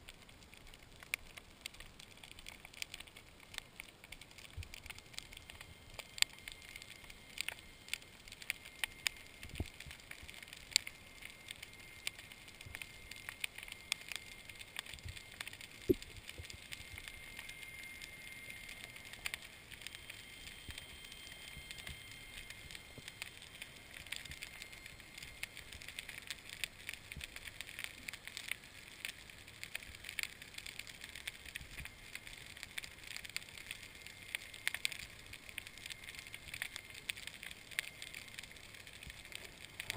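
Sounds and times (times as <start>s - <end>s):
snapping shrimp clicks underwater: 0.1s - 39.9s
faint high whine: 4.5s - 39.9s.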